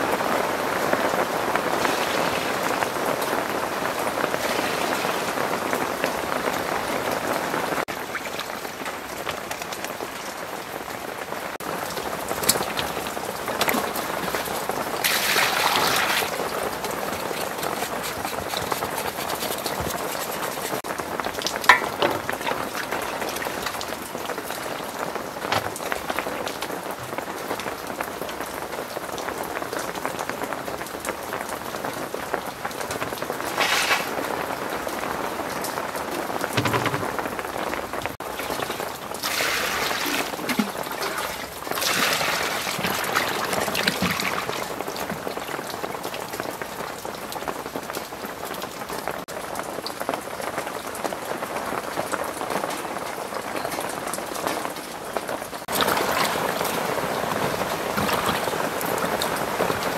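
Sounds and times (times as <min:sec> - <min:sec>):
water splashing in basins: 0:00.0 - 0:28.2, 0:32.7 - 0:49.9, 0:50.9 - 0:59.9
heavy rain falling: 0:00.0 - 0:59.9.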